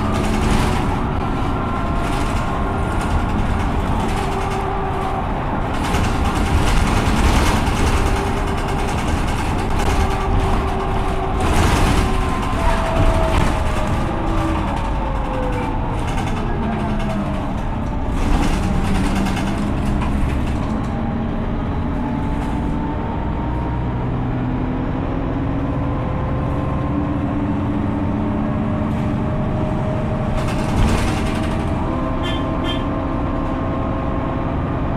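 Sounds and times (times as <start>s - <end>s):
bus engine and drivetrain whine: 0.0s - 34.9s.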